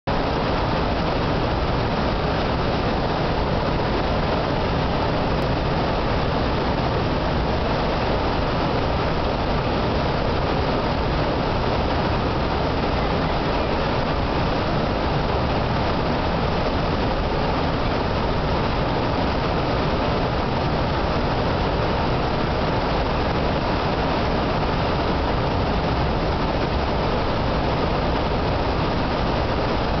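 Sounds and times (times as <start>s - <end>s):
water rushing through rock gorge: 0.1s - 30.0s.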